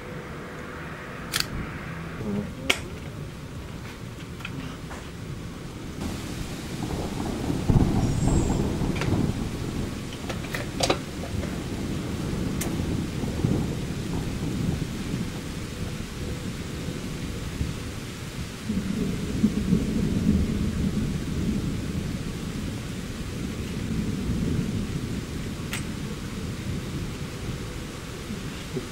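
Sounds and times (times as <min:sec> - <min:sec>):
thunder rumbling: 0:00.0 - 0:28.9.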